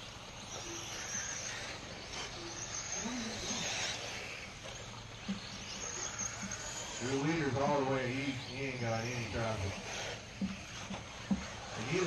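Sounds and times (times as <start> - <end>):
electric rc cars hissing: 0.0 - 12.0.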